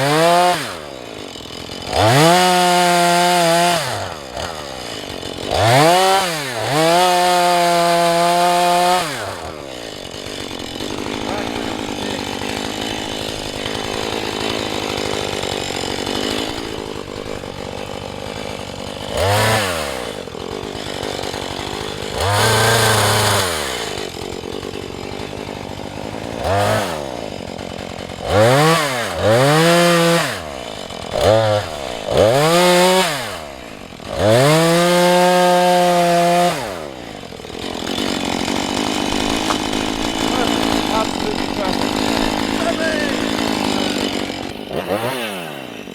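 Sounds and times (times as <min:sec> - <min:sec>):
chainsaw idling and revving: 0:00.0 - 0:45.9.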